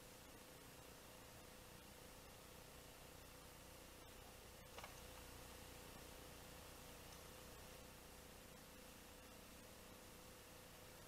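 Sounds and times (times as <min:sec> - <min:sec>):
faint steady hiss: 0:00.0 - 0:11.0
faint steady hum: 0:00.0 - 0:11.0.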